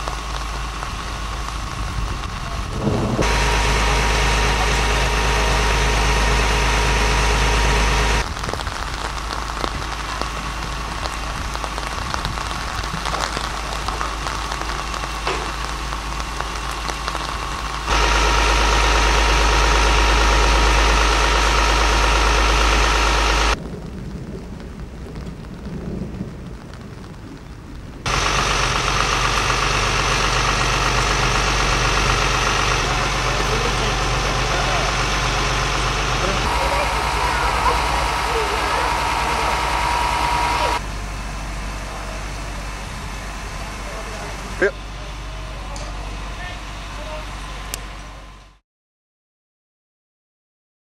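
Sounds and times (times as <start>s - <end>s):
vehicle engine idling: 0.0s - 8.3s, 9.0s - 23.6s, 28.1s - 48.6s
light patter like rain: 0.0s - 48.3s.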